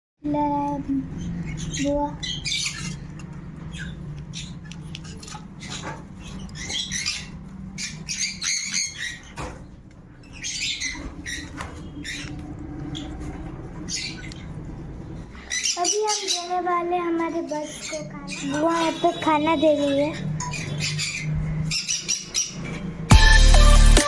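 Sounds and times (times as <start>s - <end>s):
baby birds calling: 0.3s - 24.0s.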